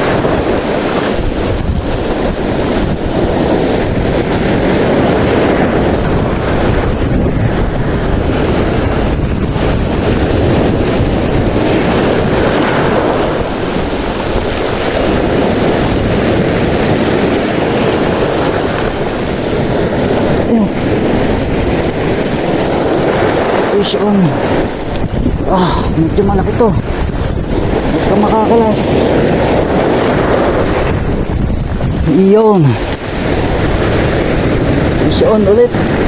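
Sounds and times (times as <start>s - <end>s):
sea washing: 0.0s - 36.0s
wind buffeting microphone: 0.0s - 36.0s.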